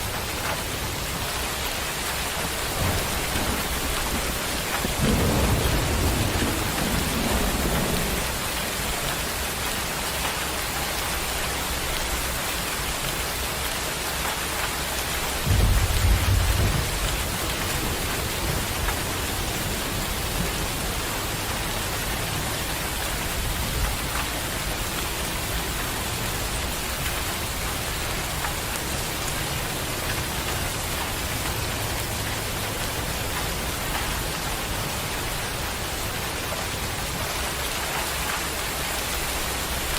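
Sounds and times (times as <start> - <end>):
thunder rumble: 0.0 - 9.6, 15.2 - 37.7
steady rain: 0.0 - 39.9.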